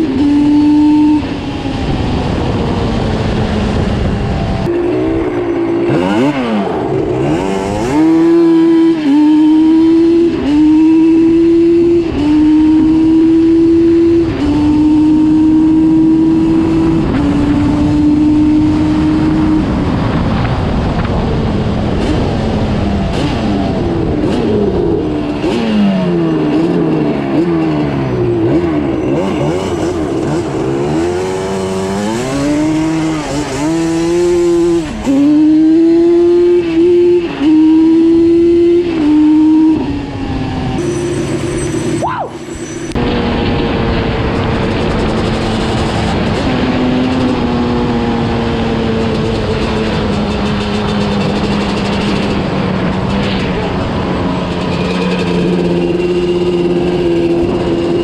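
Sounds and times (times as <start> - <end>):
two-stroke engine accelerating: 0.0 - 58.0.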